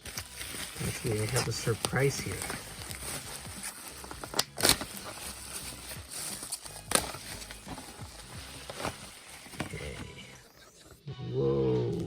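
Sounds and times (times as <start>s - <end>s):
plastic packaging clicks and crinkles: 0.0s - 10.2s.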